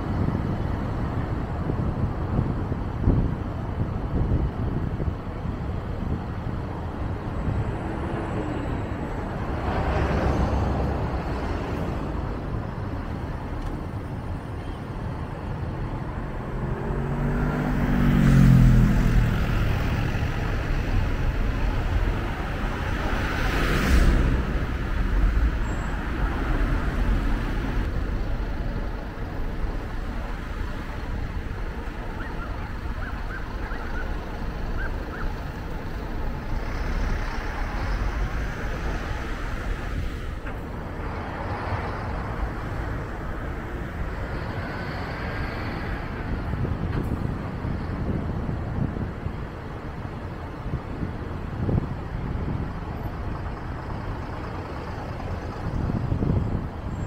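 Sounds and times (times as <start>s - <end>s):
road and traffic noise: 0.0s - 57.0s
vehicles passing: 0.0s - 57.0s.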